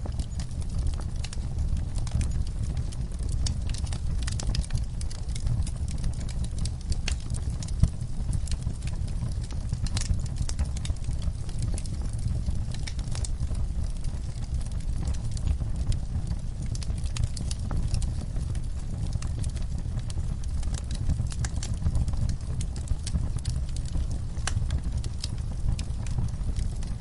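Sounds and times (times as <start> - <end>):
fire crackling and popping: 0.0 - 27.0
low fire rumble: 0.0 - 27.0.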